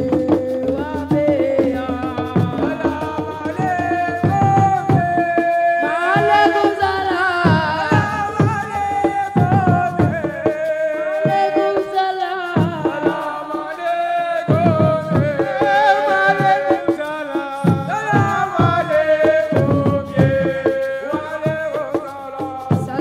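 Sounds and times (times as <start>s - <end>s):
drums beating: 0.0s - 23.0s.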